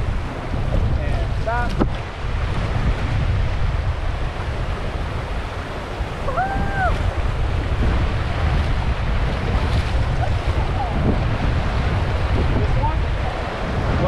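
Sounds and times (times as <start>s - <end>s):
river water rushing: 0.0s - 14.0s
wind buffeting microphone: 0.0s - 14.0s.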